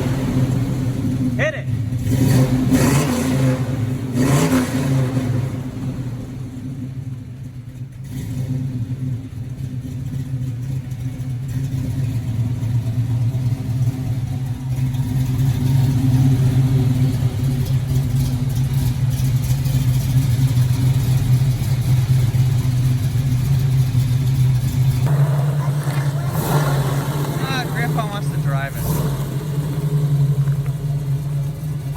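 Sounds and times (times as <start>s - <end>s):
car engine running: 0.0s - 31.9s.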